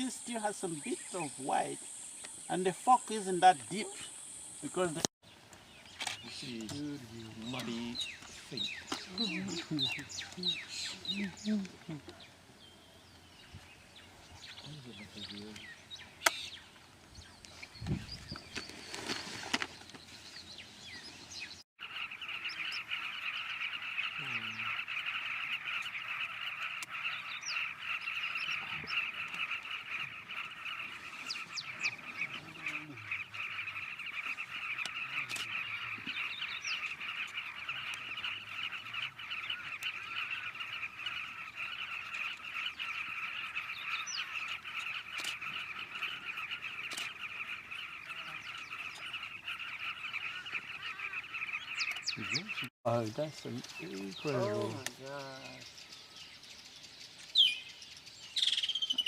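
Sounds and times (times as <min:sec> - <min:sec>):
chorus of birds chattering: 0:00.0 - 0:59.0
low falling bird calls: 0:00.0 - 0:59.0.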